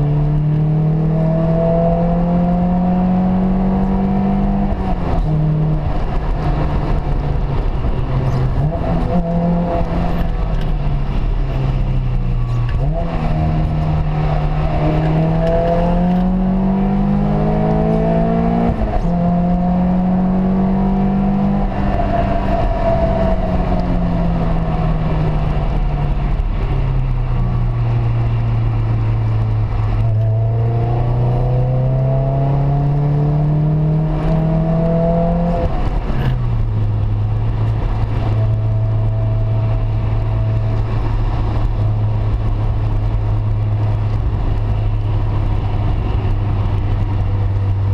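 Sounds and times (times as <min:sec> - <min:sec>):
car engine accelerating: 0:00.0 - 0:47.9.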